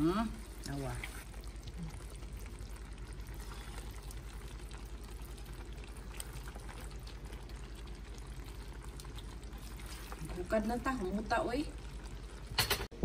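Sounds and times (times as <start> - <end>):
sauce bubbling in a pot: 0.0 - 13.0.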